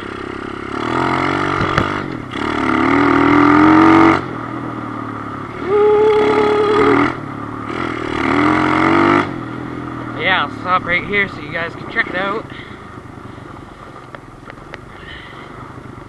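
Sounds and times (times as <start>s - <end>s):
small motorcycle engine revving: 0.0s - 16.0s.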